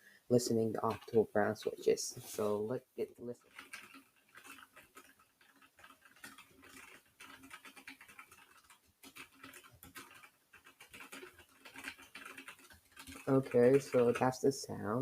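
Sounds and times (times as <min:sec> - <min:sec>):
rapid keyboard typing: 0:00.6 - 0:01.8, 0:03.0 - 0:15.0.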